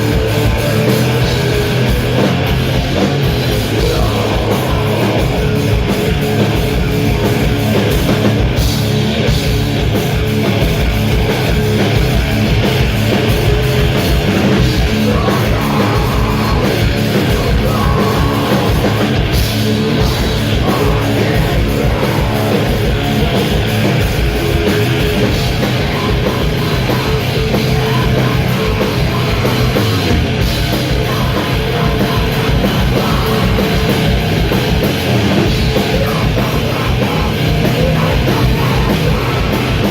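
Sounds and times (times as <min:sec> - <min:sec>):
bass guitar: 0:00.0 - 0:39.9
distorted electric guitars: 0:00.0 - 0:39.9
fast drumming: 0:00.0 - 0:39.9.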